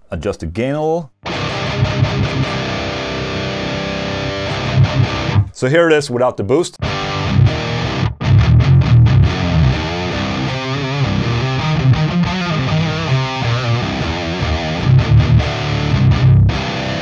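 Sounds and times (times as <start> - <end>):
distorted electric guitar riff: 1.2 - 5.6, 6.8 - 17.0.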